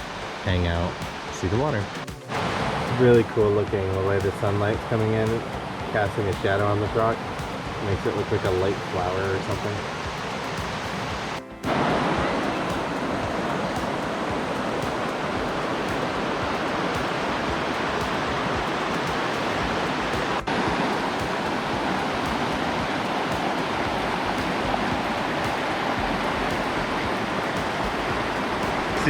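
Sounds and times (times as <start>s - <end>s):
stream rushing over boulders: 0.0s - 29.0s.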